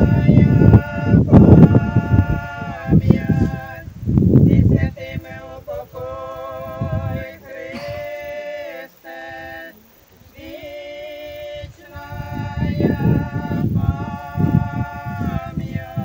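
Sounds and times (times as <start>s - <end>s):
people singing unaccompanied: 0.0s - 16.0s.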